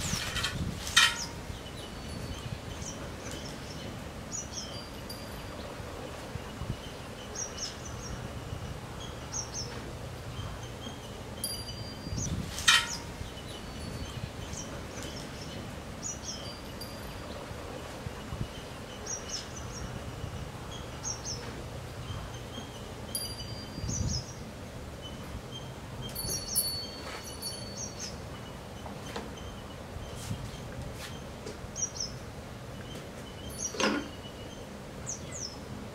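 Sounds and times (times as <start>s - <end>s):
small birds chirping: 0.0s - 35.7s
low background noise: 0.0s - 35.9s.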